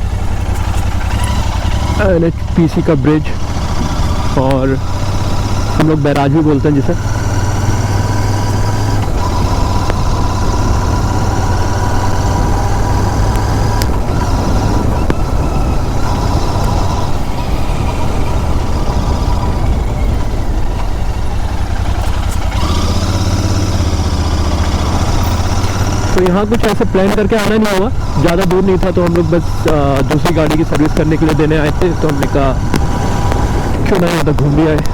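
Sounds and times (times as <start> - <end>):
motorcycle engine and exhaust running: 0.0 - 34.9.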